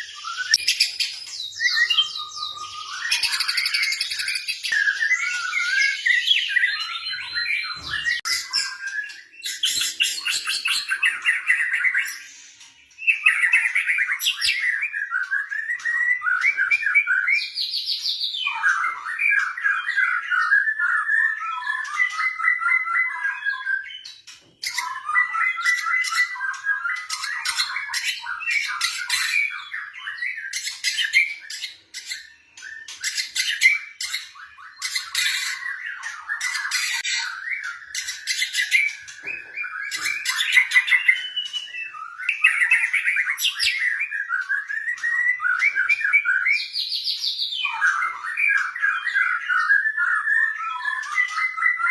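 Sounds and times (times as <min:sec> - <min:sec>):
bird singing whistled phrases: 0:00.0 - 0:51.9.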